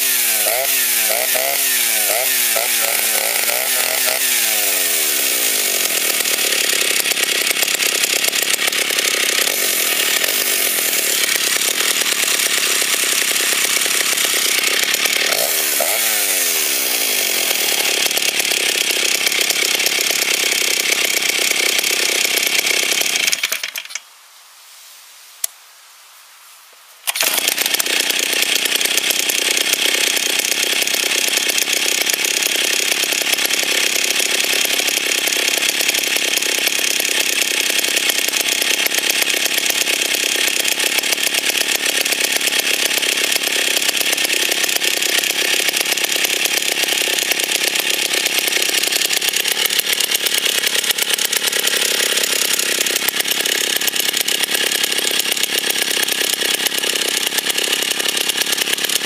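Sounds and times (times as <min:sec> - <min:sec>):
chainsaw engine revving: 0:00.0 - 0:24.0, 0:27.1 - 0:59.0.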